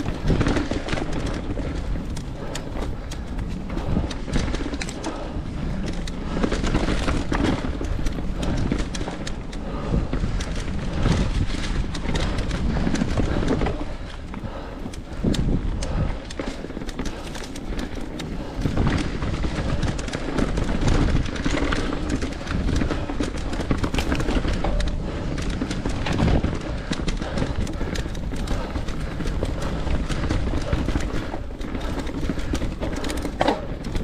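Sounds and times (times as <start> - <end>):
bike clattering over rocks: 0.0 - 34.0
bike tyres rumbling over rock: 0.0 - 34.0.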